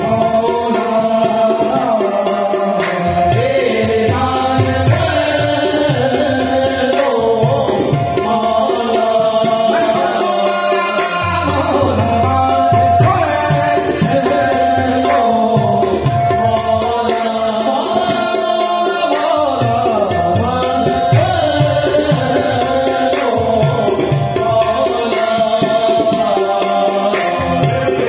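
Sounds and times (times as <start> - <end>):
tabla drumming: 0.0 - 28.0.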